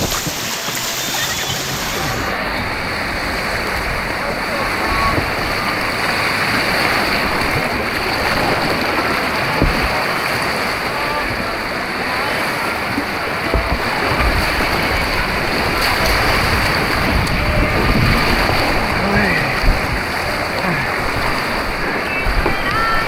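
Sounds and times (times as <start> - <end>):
low rumbling: 0.0 - 23.0
rushing white water: 0.0 - 23.0.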